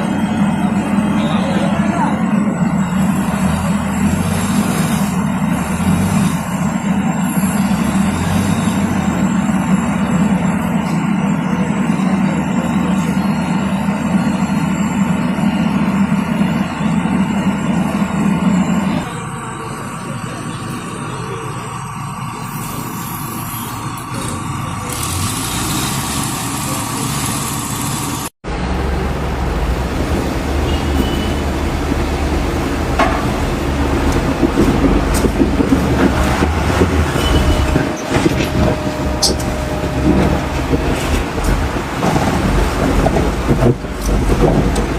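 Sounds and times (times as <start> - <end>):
truck diesel engine drone: 0.0 - 44.9.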